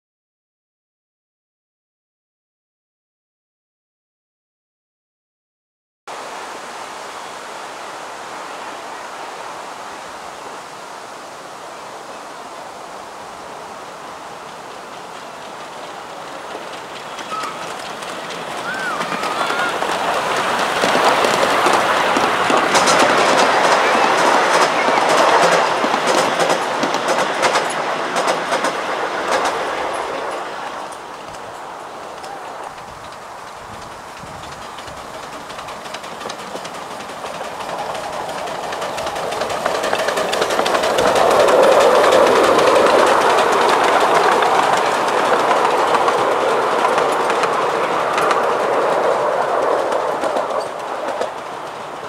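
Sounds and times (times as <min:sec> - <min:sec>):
woodland ambience hiss: 0:06.1 - 0:52.0
miniature steam train rolling: 0:07.2 - 0:52.0.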